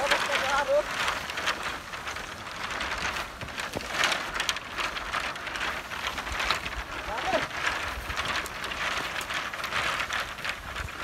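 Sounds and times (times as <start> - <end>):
bamboo stems dragging over grass: 0.0 - 11.0.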